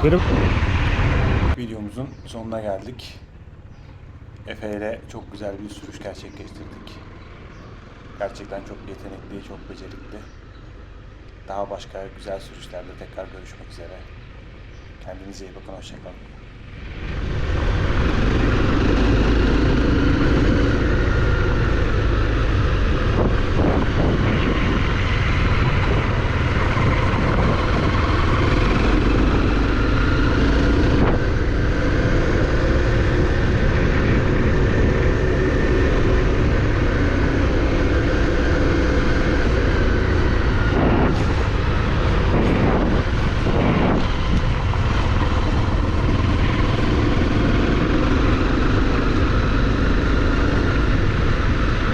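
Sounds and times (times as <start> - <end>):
vehicle engine running under load: 0.0 - 51.9.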